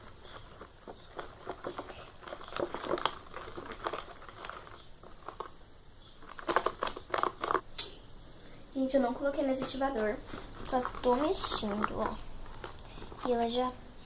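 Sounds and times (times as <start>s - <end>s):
slime stirred sticky crackles: 0.0s - 7.8s, 9.2s - 13.8s.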